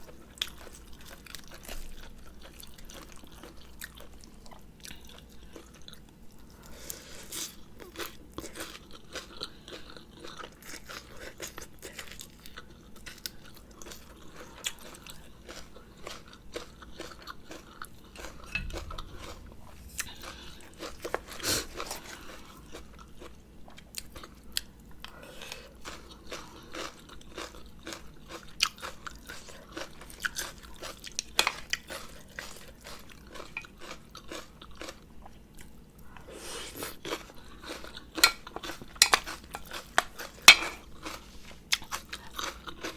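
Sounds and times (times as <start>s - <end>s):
person chewing and crunching: 0.0s - 42.9s.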